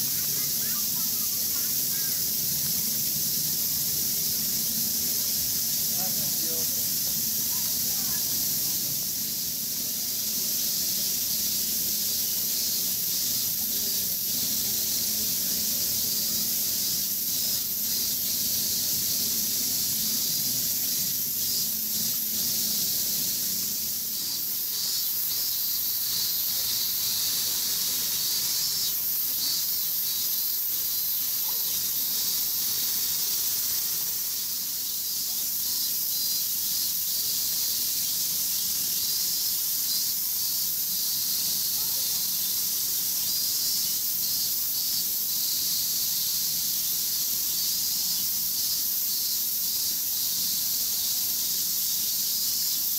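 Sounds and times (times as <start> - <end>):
high-pitched hiss: 0.0 - 52.9.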